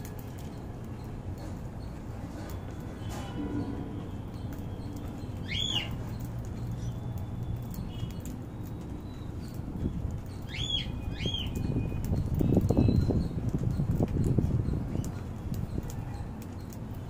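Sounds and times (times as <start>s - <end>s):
birds pecking seeds: 0.0s - 17.0s.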